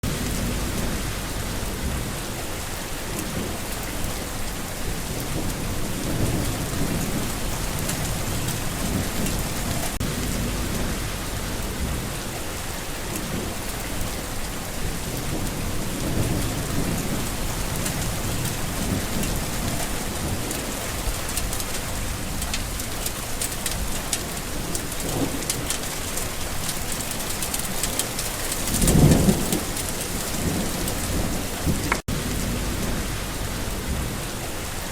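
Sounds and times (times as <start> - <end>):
rolling thunder: 0.0 - 12.4, 14.7 - 34.5
steady rain: 0.0 - 34.9.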